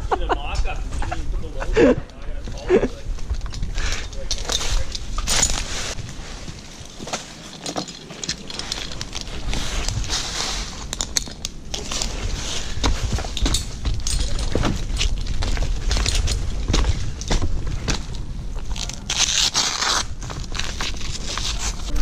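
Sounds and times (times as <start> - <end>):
camera handling rumble: 2.5 - 22.0.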